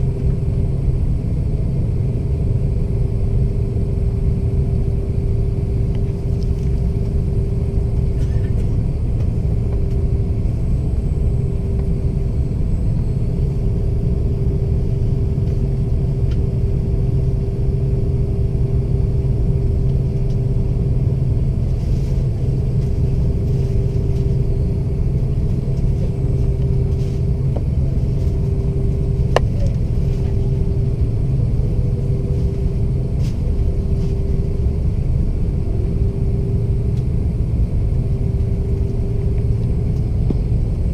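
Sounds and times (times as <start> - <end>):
jet engine cabin rumble: 0.0 - 40.9
steady hum: 0.0 - 40.9.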